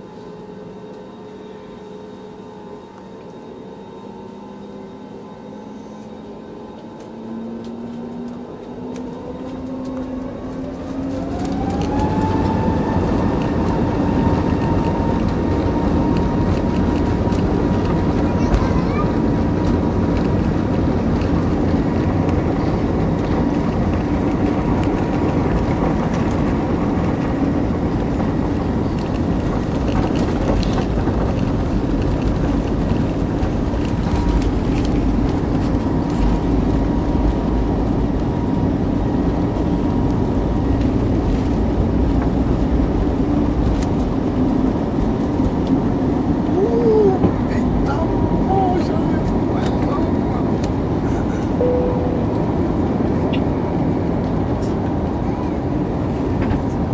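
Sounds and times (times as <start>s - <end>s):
engine drone and rushing air: 2.5s - 56.9s.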